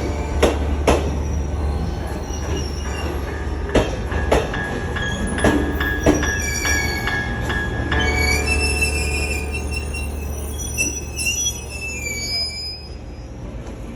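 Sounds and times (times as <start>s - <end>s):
high wheel squeals: 0.0s - 13.6s
train rumbling on rails: 0.0s - 13.9s.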